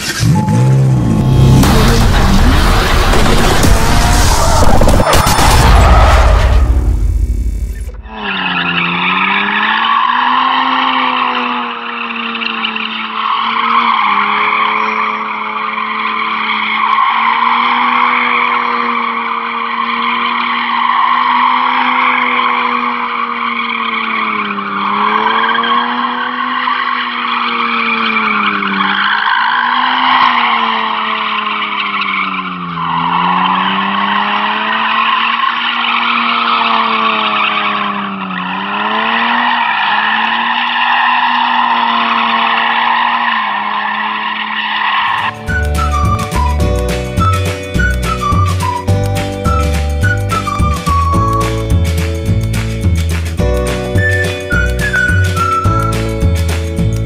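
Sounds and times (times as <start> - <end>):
tyres squealing and skidding: 0.0 - 7.1, 7.7 - 57.0
car engine revving high: 0.0 - 48.3.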